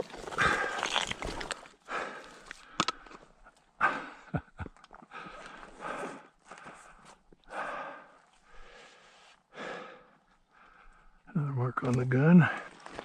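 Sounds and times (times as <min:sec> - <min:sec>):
person breathing heavily: 0:00.2 - 0:11.2.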